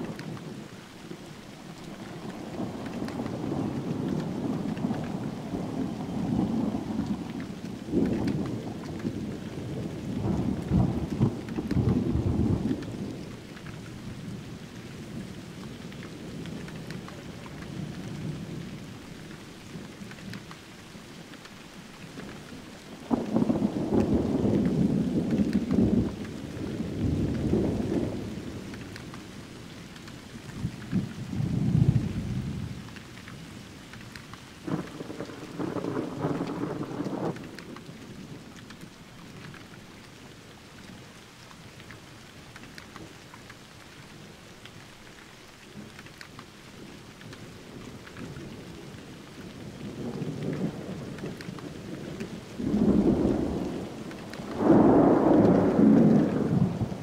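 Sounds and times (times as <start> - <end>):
low thunder rumbling: 0.0 - 20.5, 22.1 - 39.8, 46.8 - 57.0
steady rain: 0.0 - 57.0.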